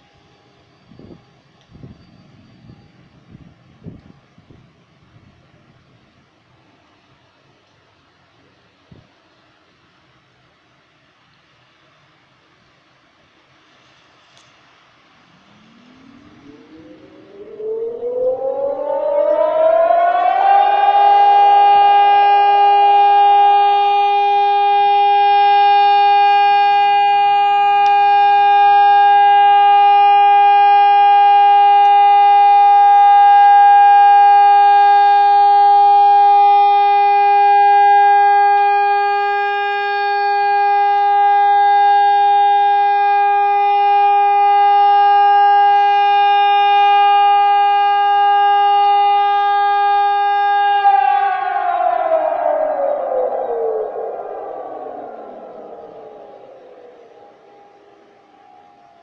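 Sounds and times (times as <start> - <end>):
air raid siren: 0.0 - 59.0.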